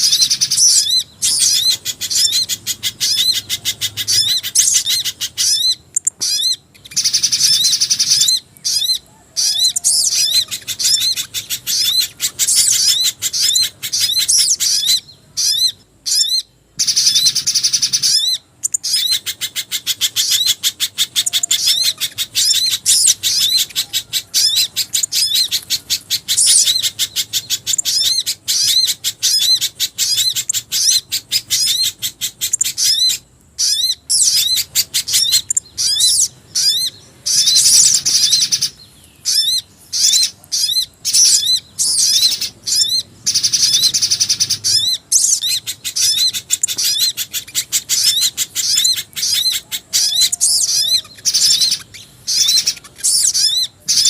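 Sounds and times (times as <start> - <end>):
high bird chirps: 0.0 - 54.0.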